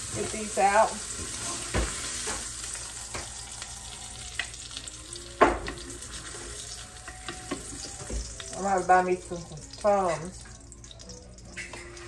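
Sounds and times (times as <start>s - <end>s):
food sizzling in grease: 0.0s - 12.0s.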